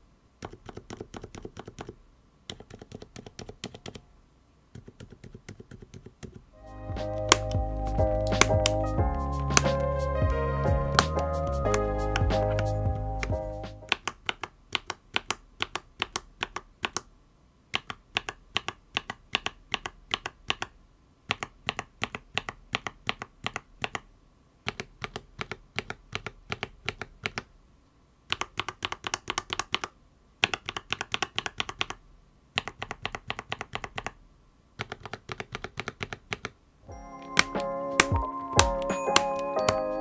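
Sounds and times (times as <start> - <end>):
mechanical keyboard typing: 0.4 - 4.0, 4.7 - 6.4, 7.0 - 10.0, 10.9 - 17.1, 17.7 - 27.5, 28.3 - 32.0, 32.6 - 34.2, 34.8 - 36.6, 37.2 - 40.0.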